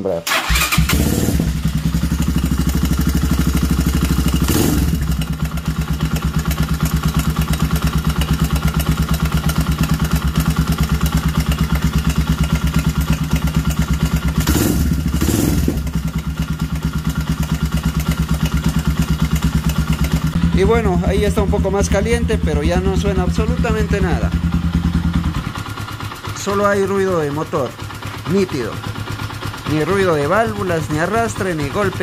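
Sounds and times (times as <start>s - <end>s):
motorcycle engine running: 0.4s - 32.0s.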